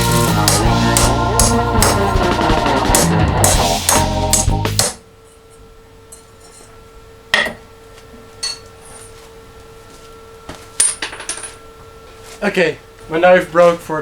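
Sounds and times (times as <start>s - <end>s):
steady workshop hum: 0.0s - 14.0s.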